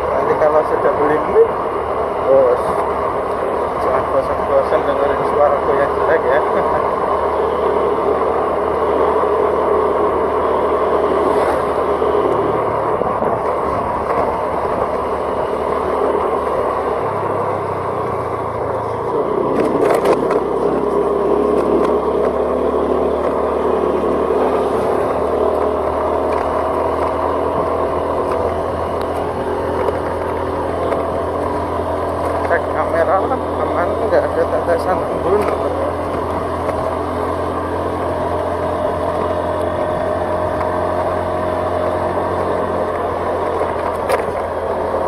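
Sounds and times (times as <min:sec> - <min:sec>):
road and wind noise: 0:00.0 - 0:45.0
vehicle engine running: 0:00.0 - 0:45.0.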